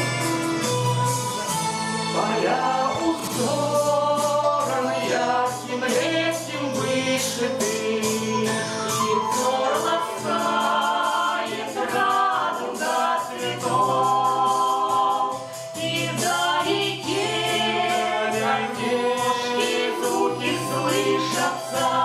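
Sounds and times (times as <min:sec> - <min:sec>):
ensemble singing in harmony: 0:01.4 - 0:22.0.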